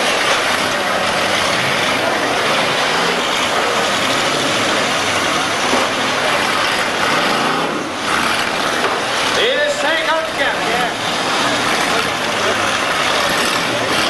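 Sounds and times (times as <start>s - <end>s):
car engines running under load: 0.0s - 14.0s.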